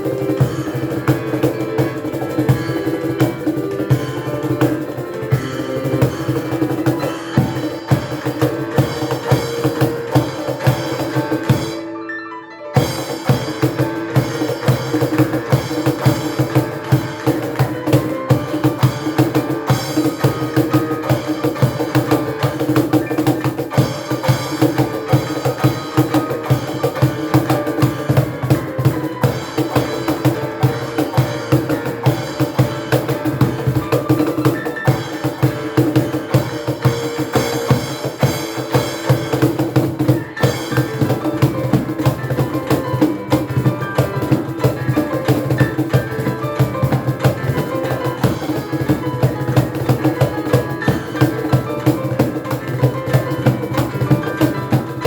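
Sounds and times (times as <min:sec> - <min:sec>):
cajon and hand percussion: 0:00.0 - 0:11.9, 0:12.8 - 0:55.0
piano playing: 0:00.0 - 0:55.0.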